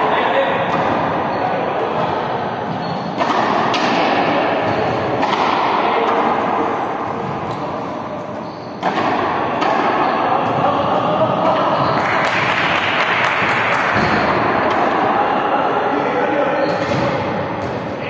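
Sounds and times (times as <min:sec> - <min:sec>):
noisy din: 0:00.0 - 0:18.0.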